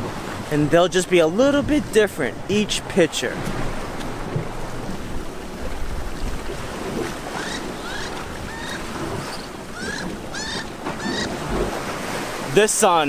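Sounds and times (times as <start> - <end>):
sea surf: 0.0 - 13.0.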